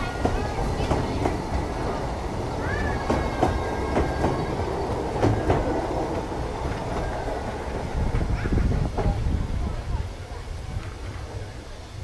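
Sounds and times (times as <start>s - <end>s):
train running on track: 0.0s - 12.0s.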